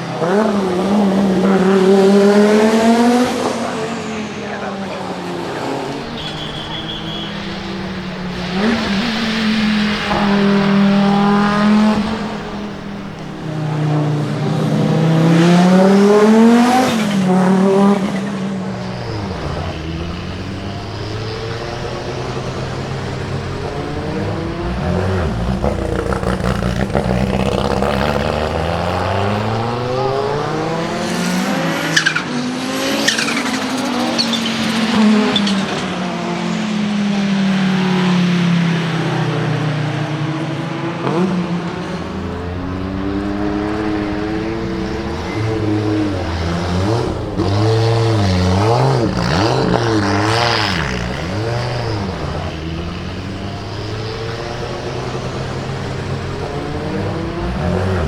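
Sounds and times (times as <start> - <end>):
race car engine running hard: 0.0 - 31.9, 39.8 - 58.0.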